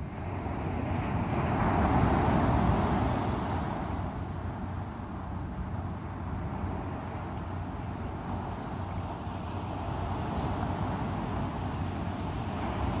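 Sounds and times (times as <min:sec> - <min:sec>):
sea waves breaking on shore: 0:00.0 - 0:13.0.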